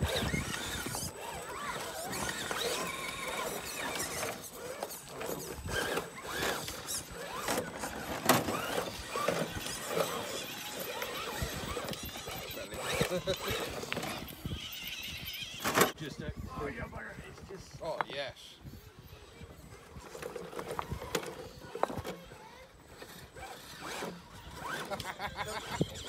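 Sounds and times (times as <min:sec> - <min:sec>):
electric motor whining: 0:00.0 - 0:17.6, 0:18.6 - 0:26.0.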